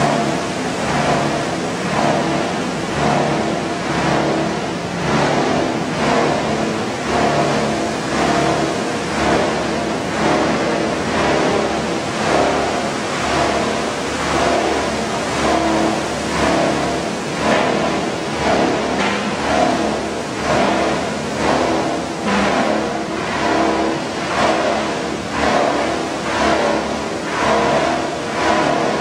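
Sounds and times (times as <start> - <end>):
machinery din with motor hum: 0.0 - 29.0.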